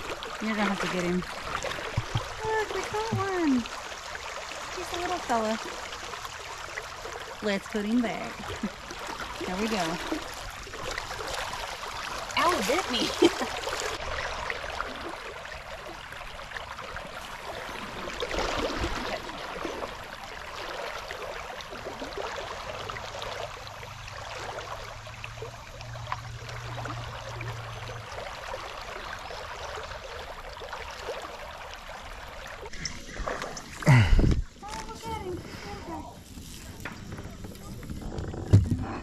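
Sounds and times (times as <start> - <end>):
river current babbling: 0.0 - 39.0.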